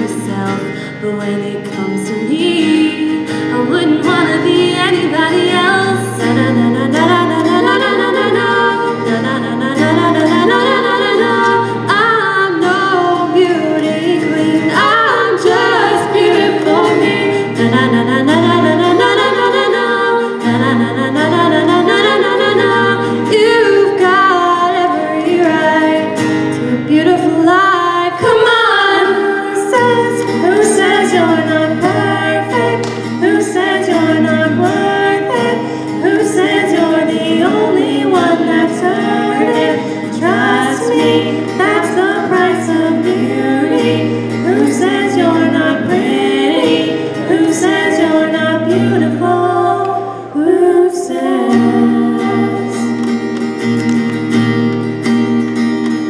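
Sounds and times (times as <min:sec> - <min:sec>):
women singing in harmony: 0:00.0 - 0:53.3.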